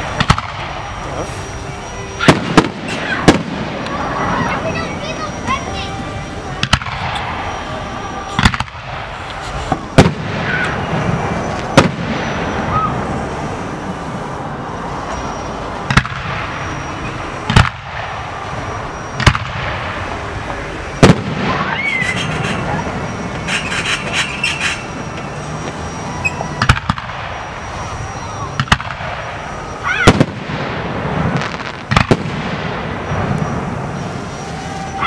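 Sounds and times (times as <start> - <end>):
fireworks booming: 0.0 - 5.7, 6.5 - 13.8, 15.8 - 24.2, 25.7 - 35.0
fireworks crackling: 0.0 - 35.0.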